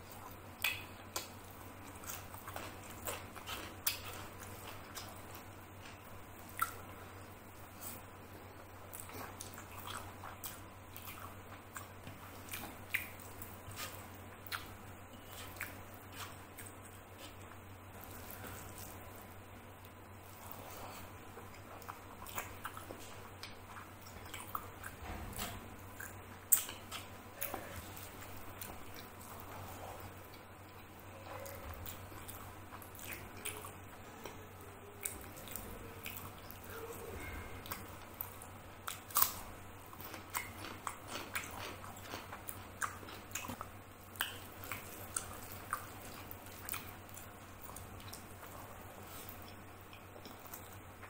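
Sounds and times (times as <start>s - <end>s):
chewing and lip smacks: 0.1s - 7.1s, 8.9s - 51.0s.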